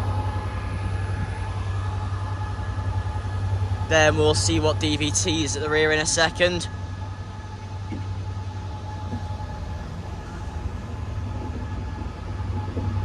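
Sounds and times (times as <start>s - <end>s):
train coaches rolling past: 0.0s - 13.0s.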